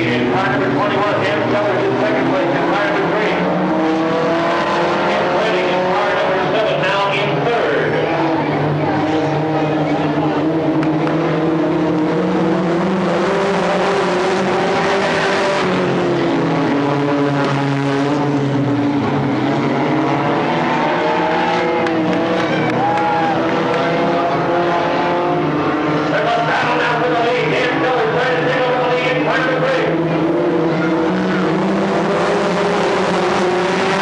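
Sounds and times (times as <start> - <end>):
race car engines: 0.0 - 34.0.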